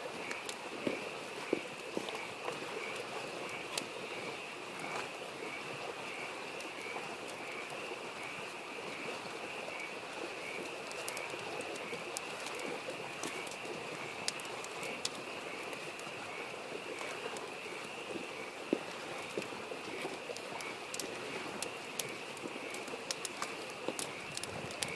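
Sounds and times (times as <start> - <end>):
babbling stream: 0.0 - 24.9
campfire crackling and popping: 0.0 - 24.9
frogs chorus: 0.0 - 24.9.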